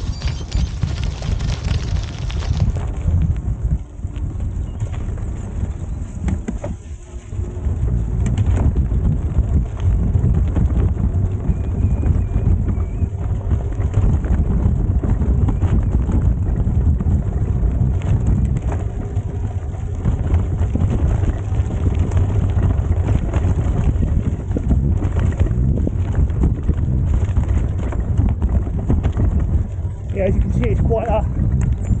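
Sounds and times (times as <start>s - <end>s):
bicycle tyres rolling on gravel: 0.0s - 32.0s
wind buffeting microphone: 0.0s - 32.0s.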